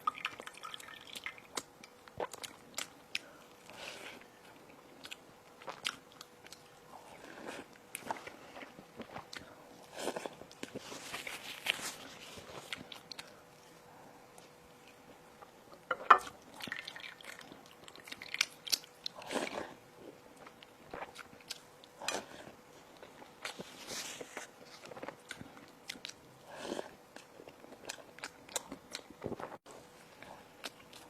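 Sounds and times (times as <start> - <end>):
person chewing crunchy food: 0.3 - 15.5, 16.4 - 31.0.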